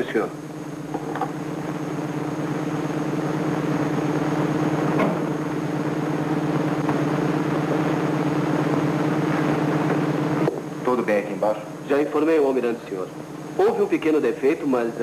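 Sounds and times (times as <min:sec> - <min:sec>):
steady machinery hum: 0:00.0 - 0:15.0.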